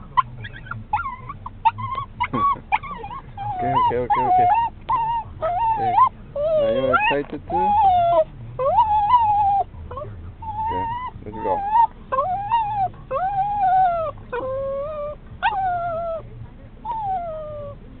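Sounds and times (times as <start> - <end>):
small dog whining: 0.0 - 16.2, 16.8 - 17.8.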